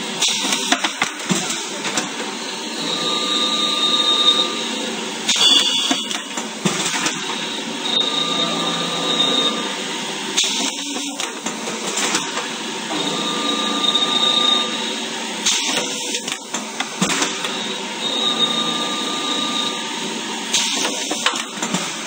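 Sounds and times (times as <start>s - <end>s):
machine running: 0.0s - 22.0s.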